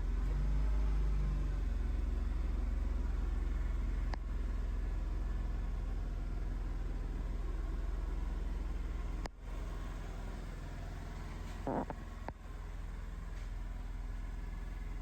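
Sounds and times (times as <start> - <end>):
scooter engine idling: 1.5 - 15.0.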